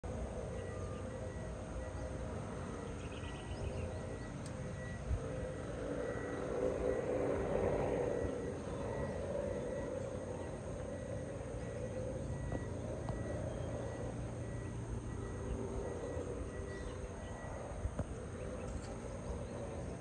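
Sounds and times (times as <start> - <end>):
low even hum: 0.0 - 20.0.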